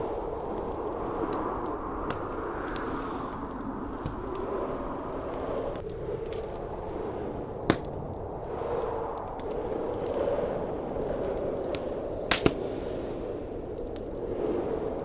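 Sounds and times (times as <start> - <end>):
sharp fire pops: 0.0 - 4.5, 5.3 - 15.0
howling blizzard wind: 0.0 - 15.0
wood fire crackling: 0.0 - 15.0.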